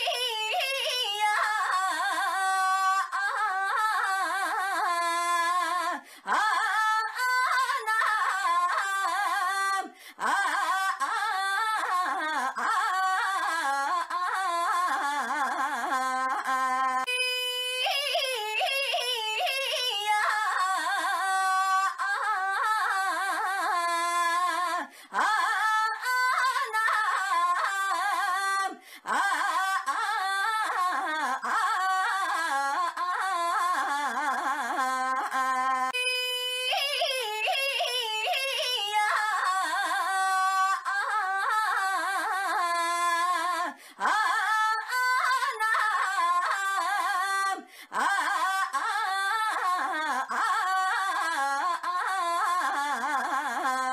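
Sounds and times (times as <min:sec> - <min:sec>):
woman calling in sing-song voice: 0:00.0 - 0:53.9.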